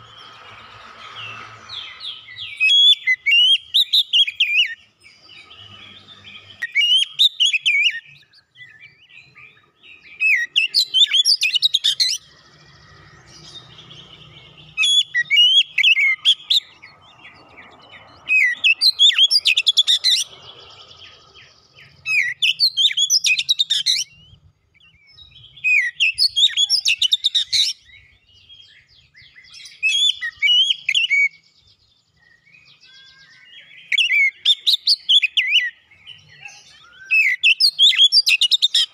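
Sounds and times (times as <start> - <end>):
bird singing whistled phrases: 0.0 - 4.9, 5.5 - 13.7, 18.2 - 20.3, 21.8 - 31.6, 32.2 - 38.9.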